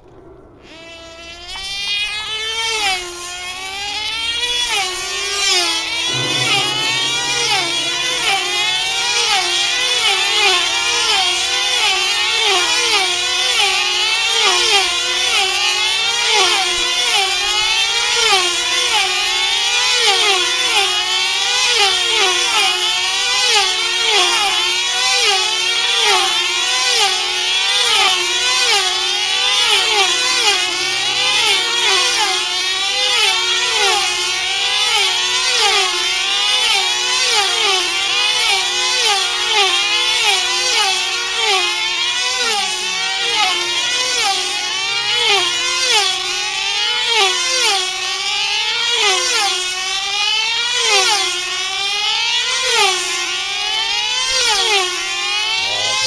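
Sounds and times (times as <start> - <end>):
model aircraft engines: 11.1 - 56.0.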